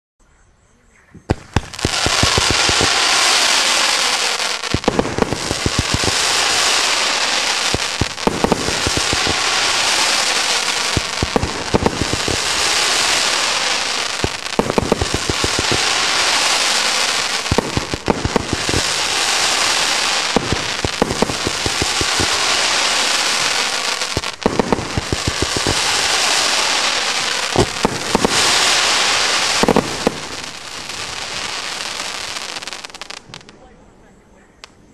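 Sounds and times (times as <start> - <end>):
firework hiss and crackle: 1.3 - 33.6.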